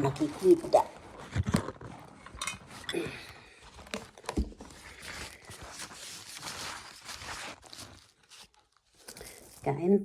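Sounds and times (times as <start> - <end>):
crinkling handling noise: 0.0 - 9.9.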